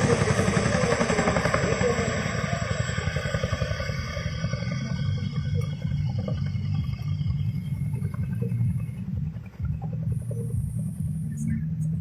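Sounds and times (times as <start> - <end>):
helicopter rotor chop: 0.0 - 12.0
voices: 0.0 - 12.0.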